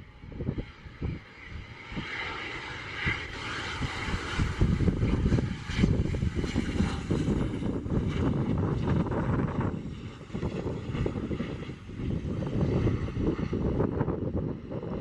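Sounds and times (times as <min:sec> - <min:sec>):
jet landing whine: 0:00.0 - 0:15.0
wind buffeting microphone: 0:00.0 - 0:15.0.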